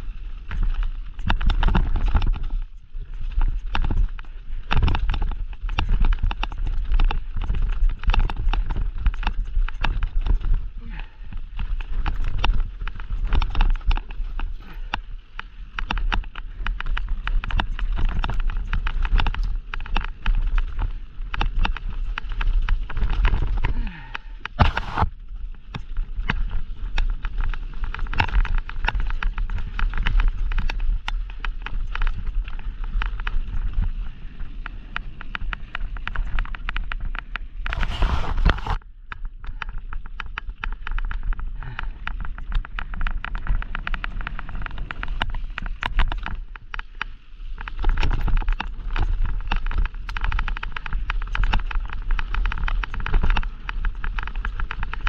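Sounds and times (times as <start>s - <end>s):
bike chain and frame rattling: 0.0s - 55.0s.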